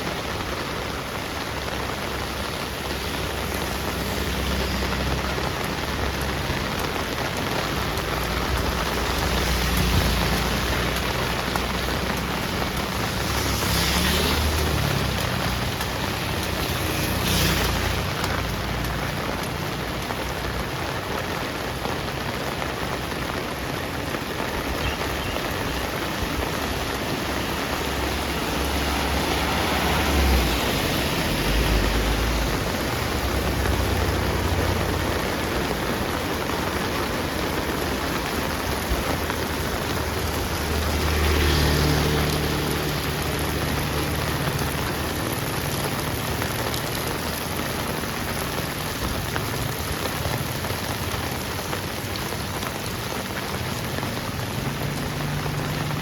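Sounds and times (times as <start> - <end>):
heavy rain on a street: 0.0 - 56.0
vehicles passing on wet road: 0.0 - 56.0.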